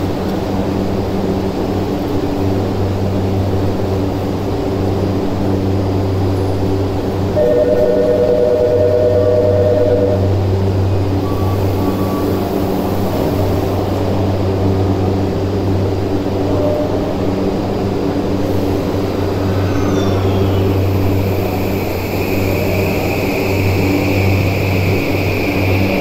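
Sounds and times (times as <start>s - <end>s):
electric train humming: 0.0s - 26.0s.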